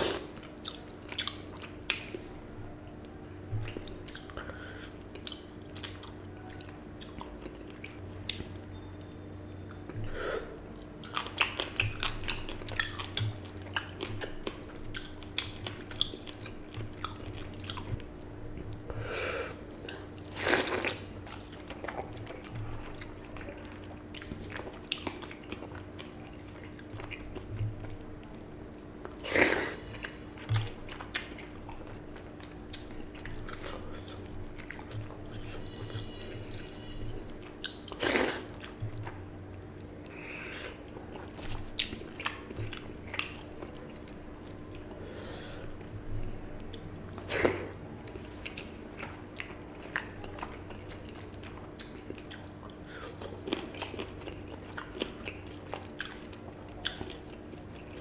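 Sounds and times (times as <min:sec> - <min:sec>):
chewing and wet mouth sounds: 0:00.0 - 0:58.0
faint steady hum: 0:00.0 - 0:58.0.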